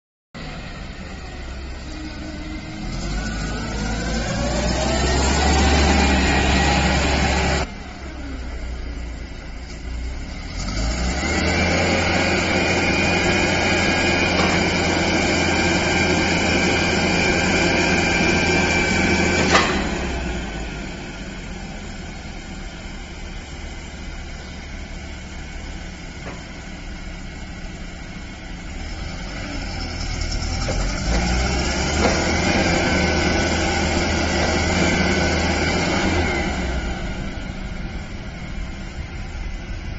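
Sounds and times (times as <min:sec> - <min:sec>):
forklift engine revving and idling: 0:00.4 - 0:39.9.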